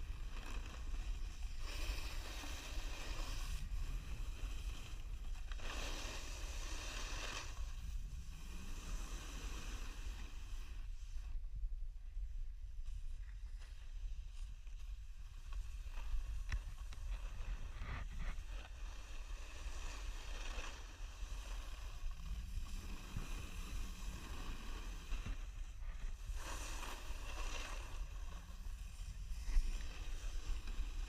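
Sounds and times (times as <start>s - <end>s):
snowboard sliding over snow: 0.0s - 11.5s, 12.2s - 31.0s.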